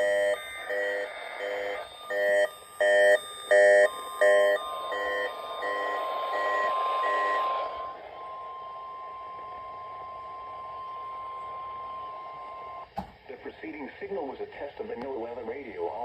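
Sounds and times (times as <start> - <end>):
faint beeping pulses: 0.0 - 12.9
steady high alarm tone: 0.0 - 12.9.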